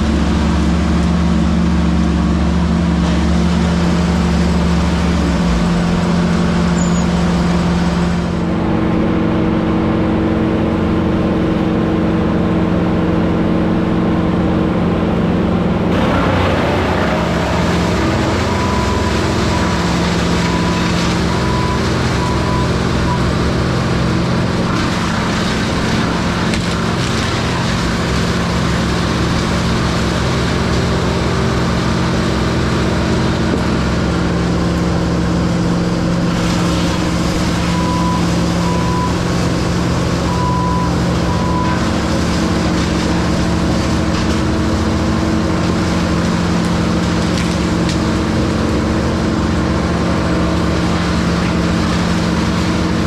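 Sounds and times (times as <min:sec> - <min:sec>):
heavy equipment engine running: 0:00.0 - 0:53.0.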